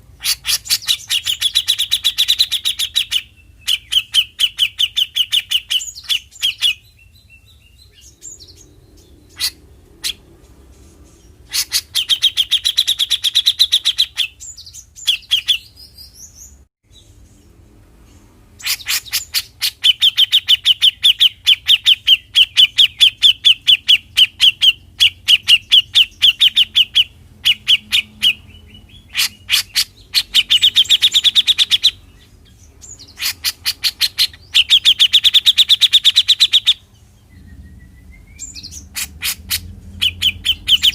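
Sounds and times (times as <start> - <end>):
bird call of sharp repeated notes: 0.0 - 17.2, 18.6 - 40.9.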